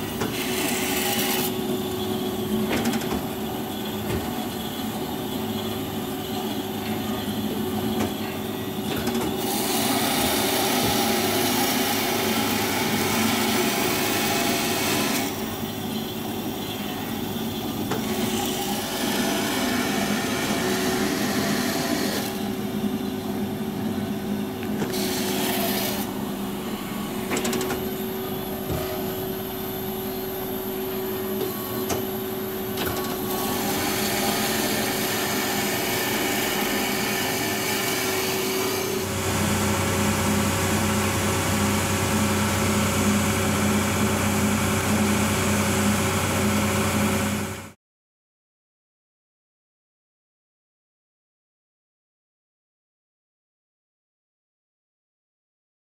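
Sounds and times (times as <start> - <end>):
band saw motor hum: 0.0 - 47.7.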